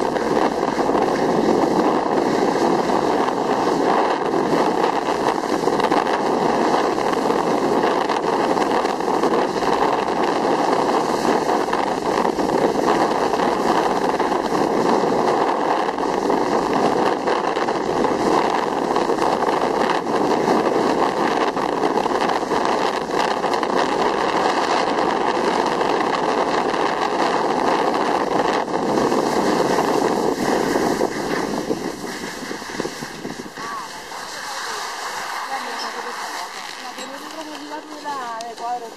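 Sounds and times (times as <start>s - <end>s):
air rushing past: 0.0s - 38.9s
skis hissing over snow: 0.0s - 38.9s.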